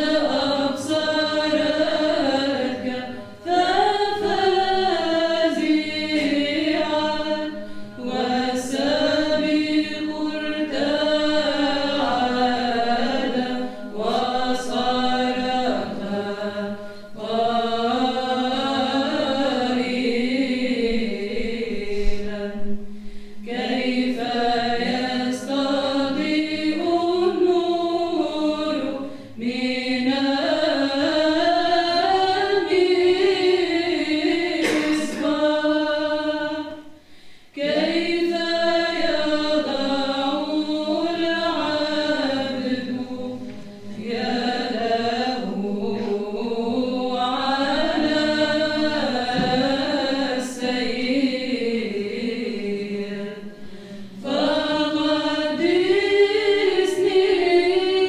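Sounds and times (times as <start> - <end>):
women's choir chanting: 0.0 - 58.0.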